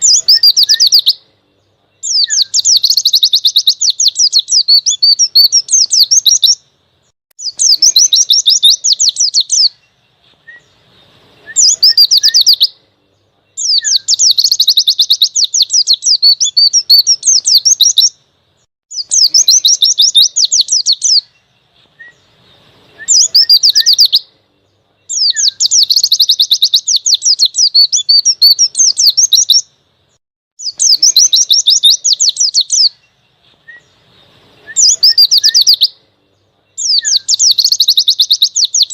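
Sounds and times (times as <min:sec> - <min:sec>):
bird fast high twittering: 0:00.0 - 0:01.3, 0:02.0 - 0:06.7, 0:07.4 - 0:12.8, 0:13.5 - 0:18.2, 0:18.9 - 0:24.3, 0:25.0 - 0:29.7, 0:30.6 - 0:36.0, 0:36.7 - 0:38.9.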